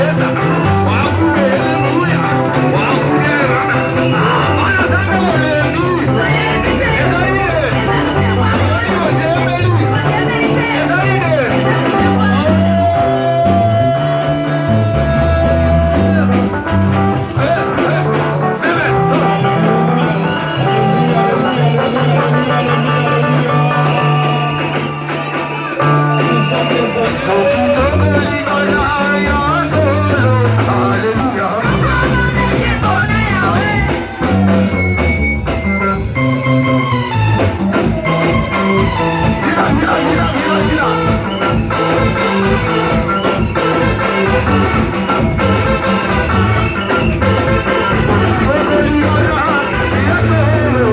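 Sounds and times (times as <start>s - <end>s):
voices singing: 0.0s - 36.0s, 37.6s - 50.9s
bass line: 0.0s - 50.9s
guitar: 0.0s - 50.9s.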